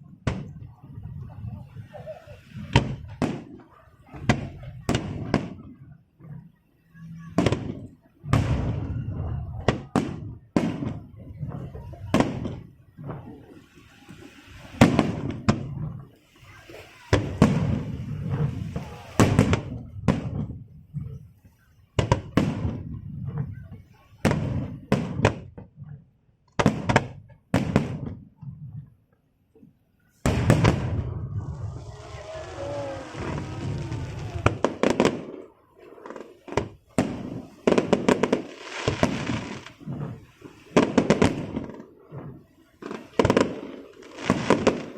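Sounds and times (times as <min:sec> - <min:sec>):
crackling firework bursts: 0:00.0 - 0:29.0, 0:30.0 - 0:44.9
fireworks bursting with booms: 0:00.0 - 0:29.0, 0:30.1 - 0:44.9.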